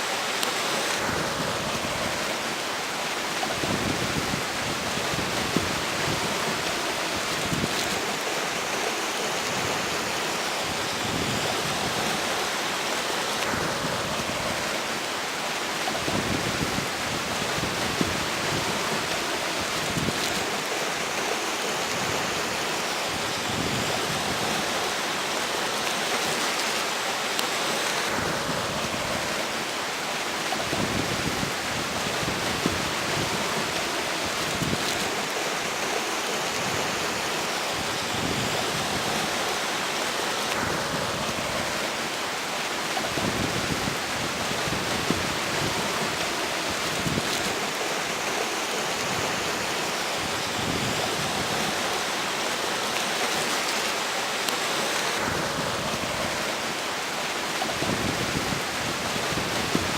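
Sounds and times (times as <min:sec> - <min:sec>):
river water rushing: 0:00.0 - 0:59.9
strong wind blowing: 0:00.8 - 0:59.9.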